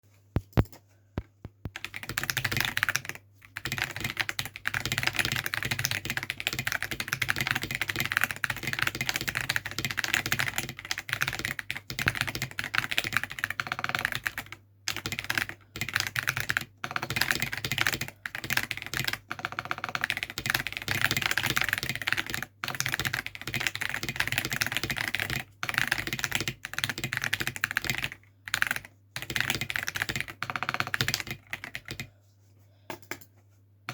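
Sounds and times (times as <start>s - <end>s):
mechanical keyboard typing: 0.4s - 32.1s.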